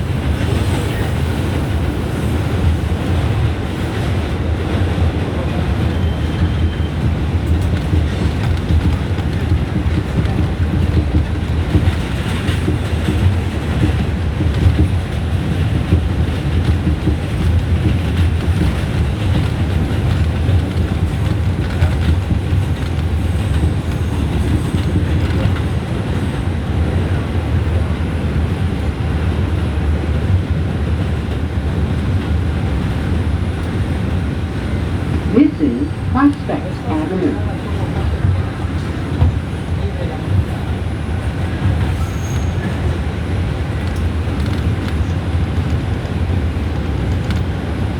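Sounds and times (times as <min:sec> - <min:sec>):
subway train rumbling on rails: 0:00.0 - 0:47.9.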